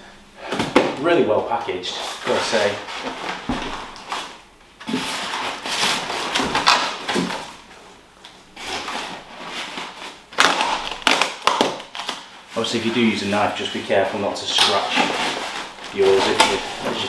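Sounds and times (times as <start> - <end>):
plastic wrap crinkling: 1.6 - 17.0.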